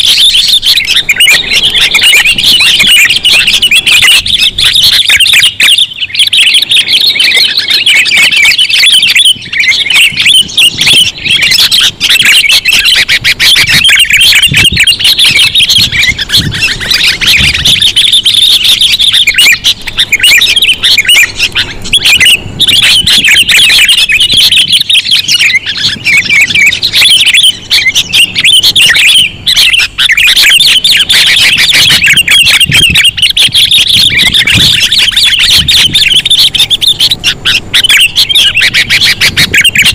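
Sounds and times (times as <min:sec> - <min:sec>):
bulbul chirps and squawking chatter: 0:00.0 - 0:39.9.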